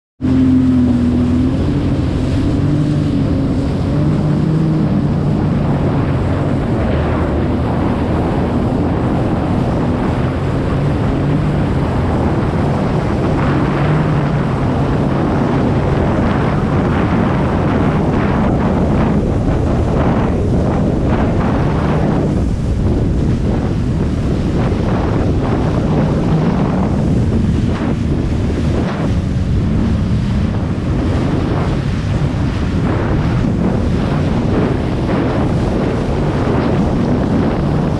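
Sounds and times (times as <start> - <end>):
jet ski engine: 0.2 - 37.9
water splashing: 0.2 - 37.9
wind rush on microphone: 0.2 - 37.9.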